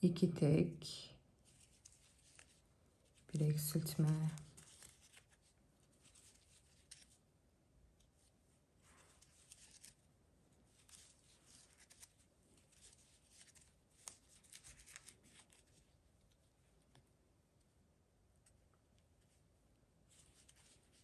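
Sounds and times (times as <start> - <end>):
crochet hook rustling yarn: 1.3 - 7.3, 7.9 - 17.0, 18.3 - 21.0.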